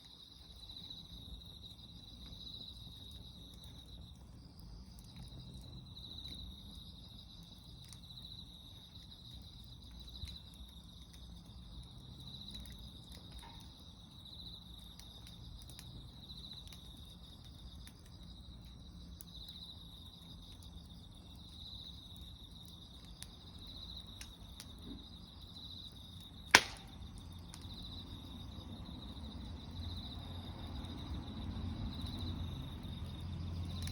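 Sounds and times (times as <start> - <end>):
insects chirring: 0.0 - 33.9
wood fire crackling and popping: 0.0 - 33.9.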